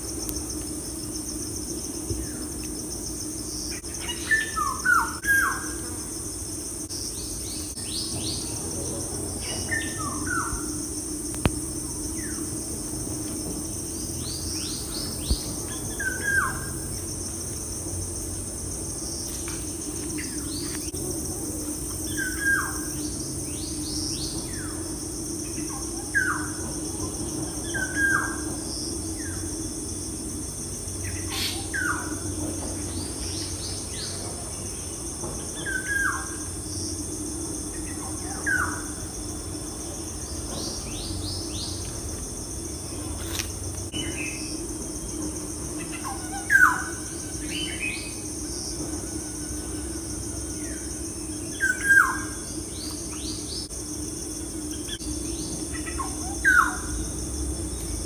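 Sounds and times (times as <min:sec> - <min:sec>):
high insect drone: 0:00.0 - 0:58.0
steady low hum: 0:00.0 - 0:58.0.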